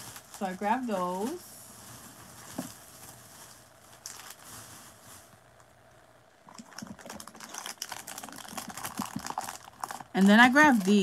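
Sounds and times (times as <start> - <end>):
plastic packaging crinkling: 0.0 - 5.7, 6.4 - 11.0.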